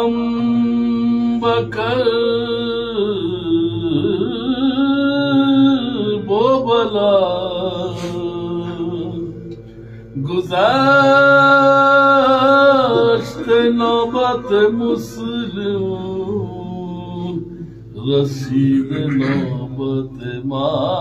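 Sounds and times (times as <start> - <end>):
man chanting: 0.0 - 9.6, 10.2 - 21.0.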